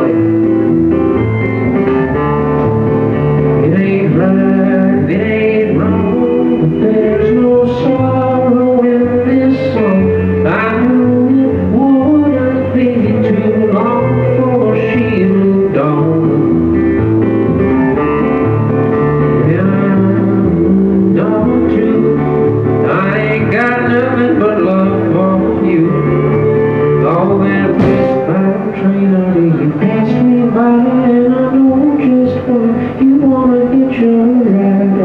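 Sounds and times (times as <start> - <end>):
live country band playing: 0.0 - 35.0.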